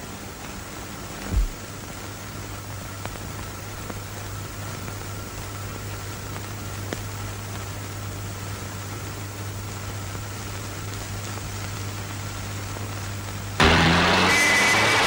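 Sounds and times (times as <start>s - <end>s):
low mains-like hum: 0.0s - 13.6s
film soundtrack hiss: 0.0s - 15.0s.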